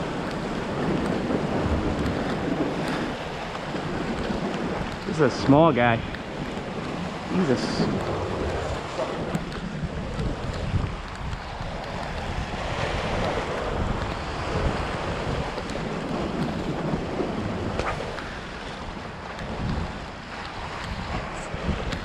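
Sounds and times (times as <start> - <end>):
waves washing over rocks: 0.0 - 22.0
wind on microphone: 0.0 - 22.0.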